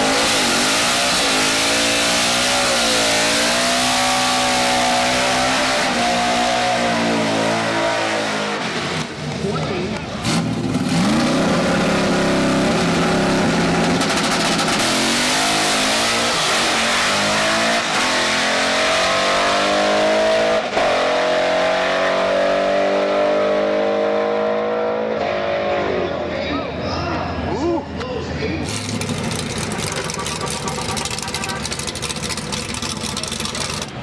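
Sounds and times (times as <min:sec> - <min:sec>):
drag car engine accelerating: 0:00.0 - 0:26.2, 0:28.6 - 0:34.0.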